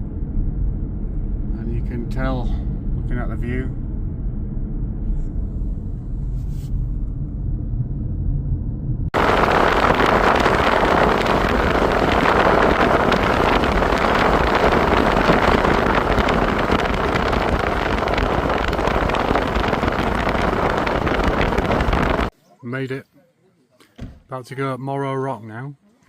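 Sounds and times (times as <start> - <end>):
car road and wind noise: 0.0 - 22.3.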